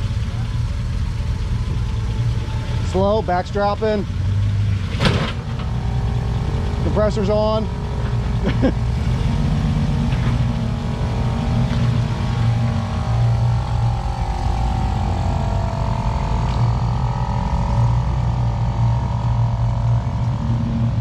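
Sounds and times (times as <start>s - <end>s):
off-road engine at low revs: 0.0s - 21.0s
wavering whine: 0.0s - 21.0s.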